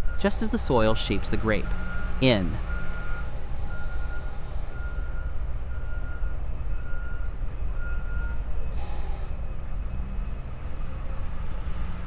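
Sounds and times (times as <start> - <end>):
low engine rumble: 0.0 - 12.0
reversing alarm beeping: 0.0 - 12.0.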